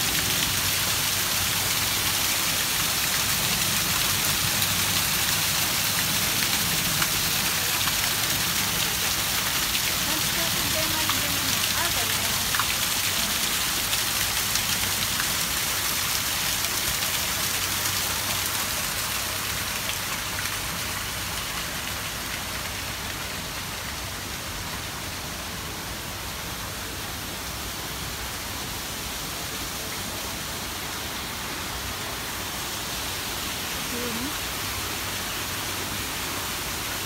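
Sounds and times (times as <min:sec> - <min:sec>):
water splashing down waterfall: 0:00.0 - 0:37.0.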